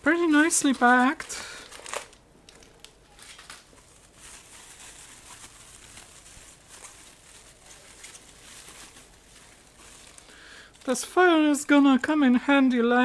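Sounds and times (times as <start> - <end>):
bubble wrap rustling and crinkling: 0.0 - 12.5.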